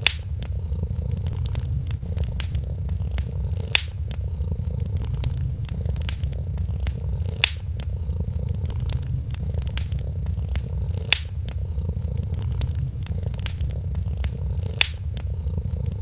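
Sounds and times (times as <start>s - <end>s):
cat purring: 0.0s - 16.0s
sharp fire pops: 0.0s - 16.0s
wood fire crackling: 0.0s - 16.0s.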